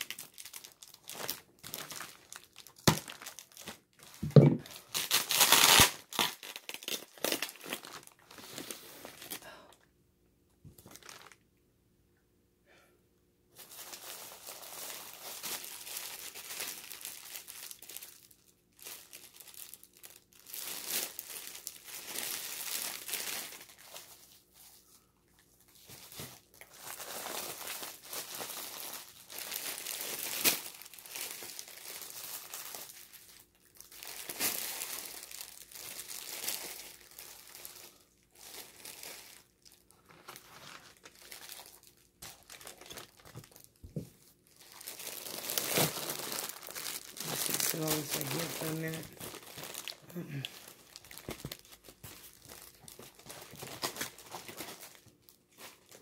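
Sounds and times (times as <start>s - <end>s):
plastic packaging crinkling: 0.0s - 9.7s, 10.7s - 11.4s, 13.6s - 24.8s, 25.4s - 56.0s.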